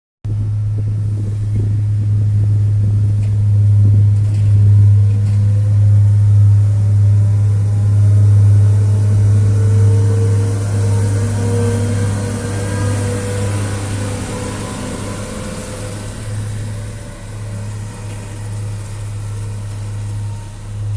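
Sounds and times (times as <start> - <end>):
diesel engine humming: 0.3 - 20.9
faint rising whine: 0.3 - 20.9.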